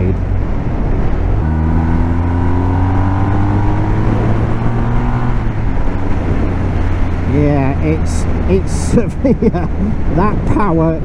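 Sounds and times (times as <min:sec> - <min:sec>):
motorcycle engine accelerating: 0:00.0 - 0:10.2
wind rush: 0:00.0 - 0:11.0.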